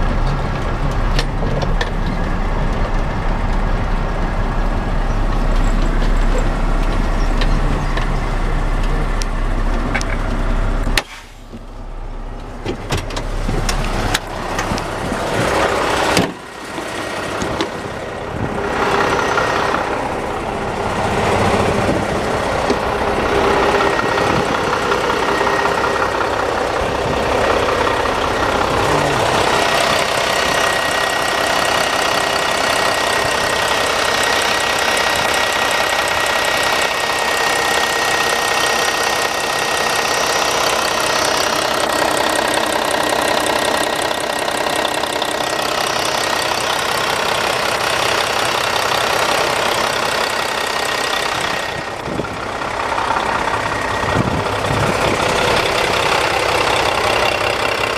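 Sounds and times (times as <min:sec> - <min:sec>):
truck diesel engine running: 0:00.0 - 0:57.9.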